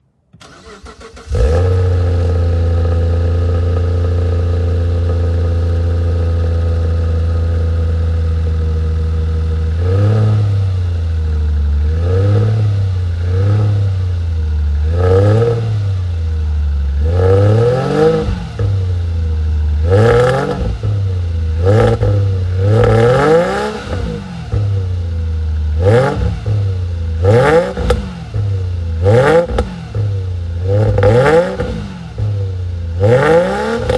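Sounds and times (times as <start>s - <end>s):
car engine idling and revving: 0.4s - 33.9s.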